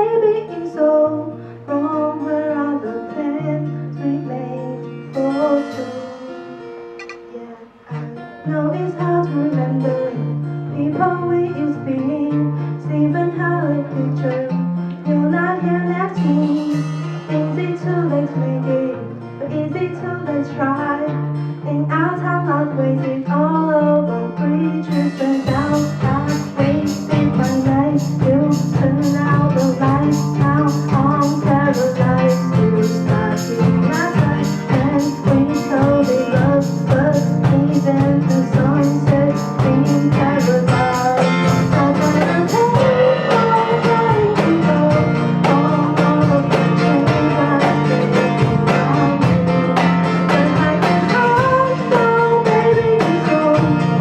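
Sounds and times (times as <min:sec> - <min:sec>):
person singing: 0:00.0 - 0:54.0
acoustic guitar strumming: 0:01.0 - 0:54.0.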